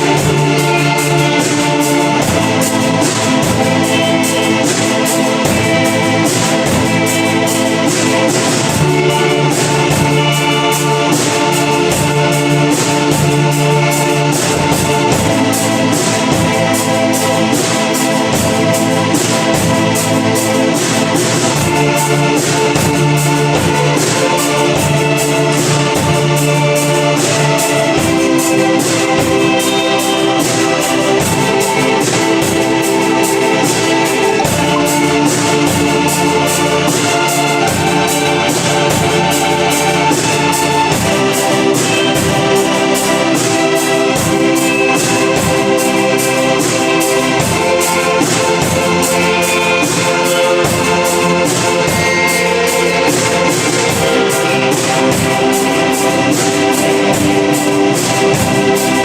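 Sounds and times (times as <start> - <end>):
live band instrumental: 0.0 - 59.0.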